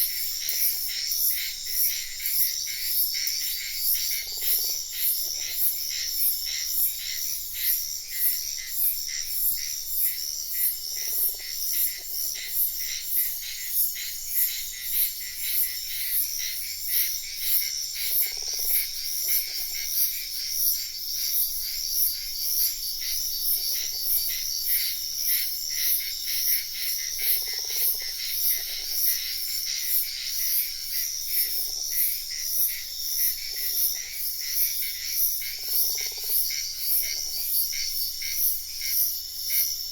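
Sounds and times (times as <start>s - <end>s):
frogs croaking: 0.0s - 39.9s
insects chirping: 0.0s - 39.9s.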